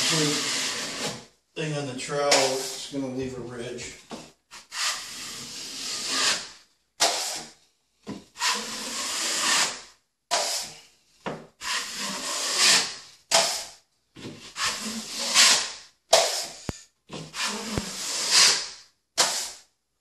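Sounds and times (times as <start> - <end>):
drywall knife scraping wall: 0.0 - 1.3, 2.2 - 2.9, 4.1 - 10.9, 11.6 - 19.6.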